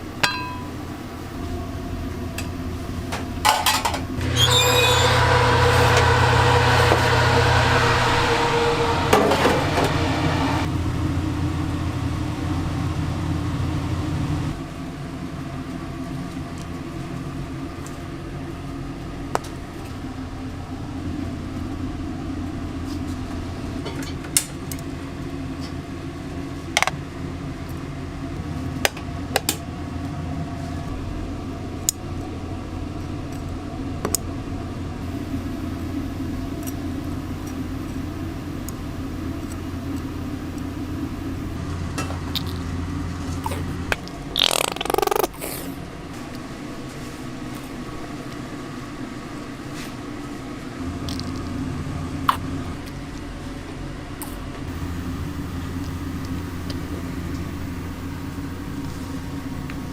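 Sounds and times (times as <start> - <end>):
high steady whine: 0.0 - 44.4, 45.8 - 59.9
low mechanical hum: 0.0 - 59.9.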